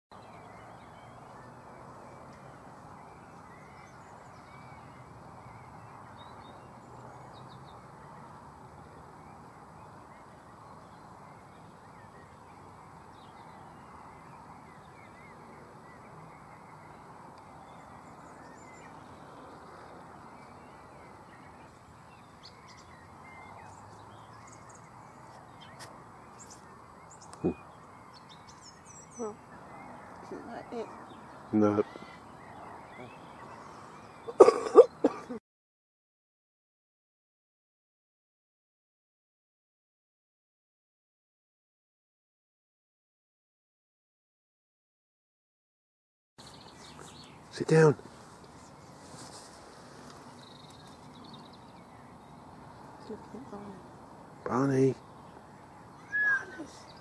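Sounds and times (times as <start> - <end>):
small birds chirping: 0.2 - 35.4, 46.4 - 57.0.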